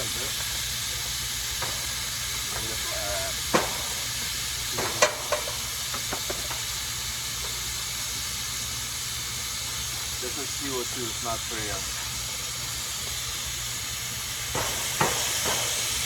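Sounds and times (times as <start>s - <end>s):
pressurized gas hissing: 0.0s - 16.0s.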